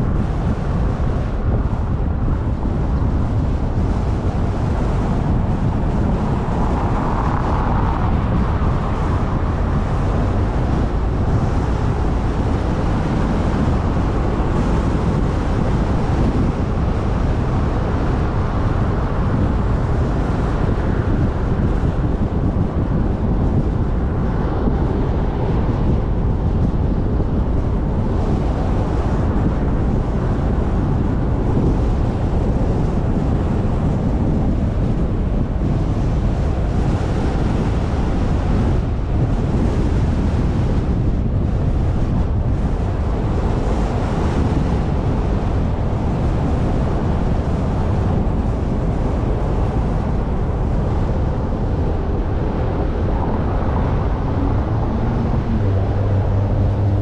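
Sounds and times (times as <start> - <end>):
car road noise rumble: 0.0 - 57.0
wind buffeting microphone: 0.0 - 57.0.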